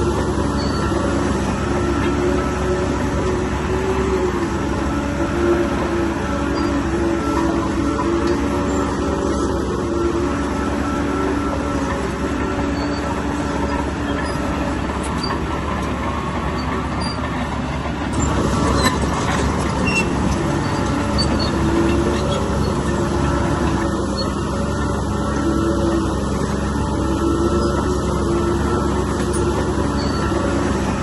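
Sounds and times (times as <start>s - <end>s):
bulldozer diesel engine: 0.0s - 31.0s
steel tracks clanking and squeaking: 0.0s - 31.0s.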